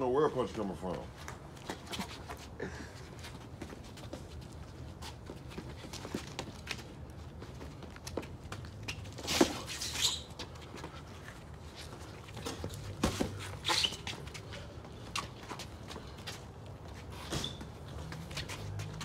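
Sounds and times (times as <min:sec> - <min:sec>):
sneakers scuffing on concrete: 0:03.2 - 0:19.0.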